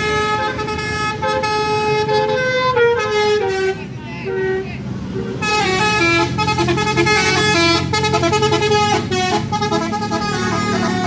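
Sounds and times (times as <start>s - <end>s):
musical bus horn playing a tune: 0.0s - 11.0s.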